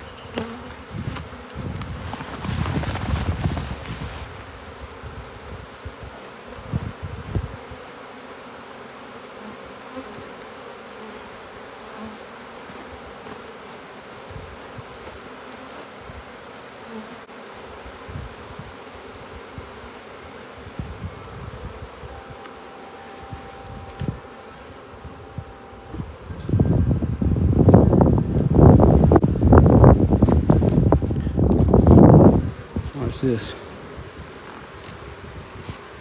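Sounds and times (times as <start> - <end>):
bee swarm buzzing: 0.0 - 36.0.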